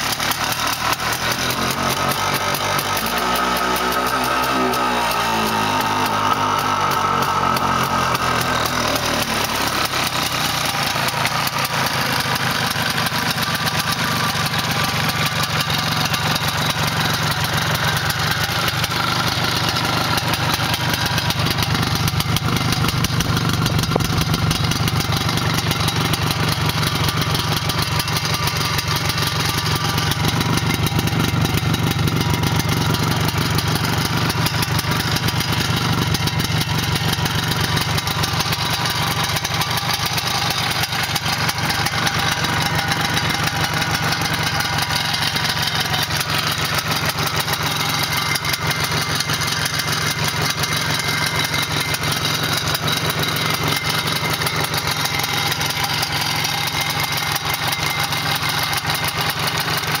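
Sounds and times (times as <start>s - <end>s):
two-stroke engine idling: 0.0s - 60.0s.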